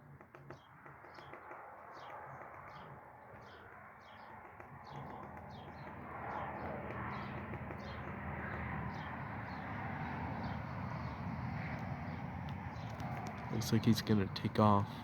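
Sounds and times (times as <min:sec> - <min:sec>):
small songbird chirping: 0:00.5 - 0:15.0.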